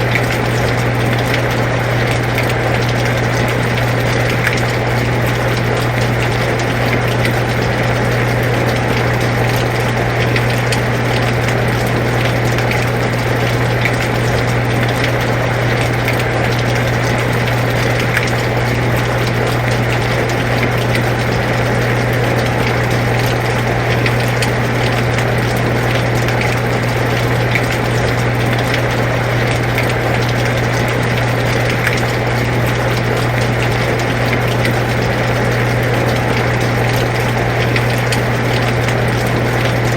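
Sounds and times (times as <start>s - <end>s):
air conditioner humming: 0.0s - 39.9s
ticks of raindrops: 0.0s - 39.9s.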